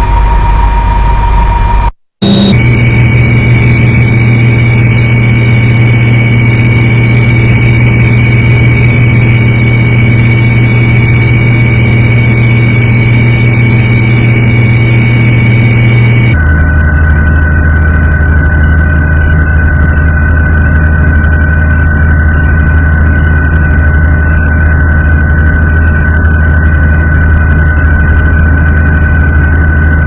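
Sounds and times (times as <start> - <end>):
helicopter engine and rotor drone: 2.2 - 30.0.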